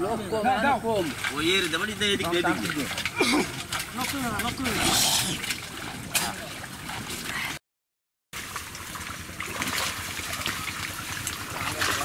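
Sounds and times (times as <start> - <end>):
water sloshing and splashing: 0.4 - 7.6, 8.4 - 12.0
sharp splash: 1.0 - 7.5, 8.4 - 12.0.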